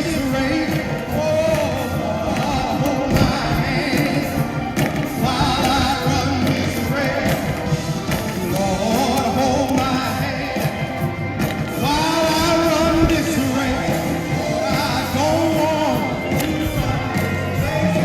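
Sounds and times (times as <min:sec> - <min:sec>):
worship song singing: 0:00.0 - 0:18.0.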